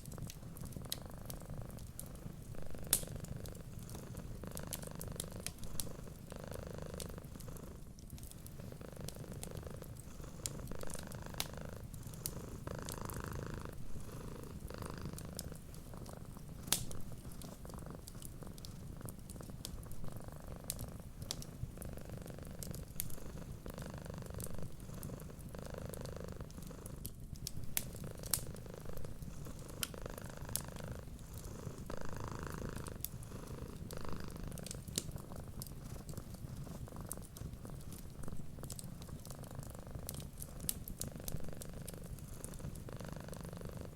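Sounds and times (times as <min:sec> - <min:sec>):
wood fire crackling: 0:00.0 - 0:06.3, 0:06.9 - 0:42.9
cat purring: 0:00.0 - 0:43.9.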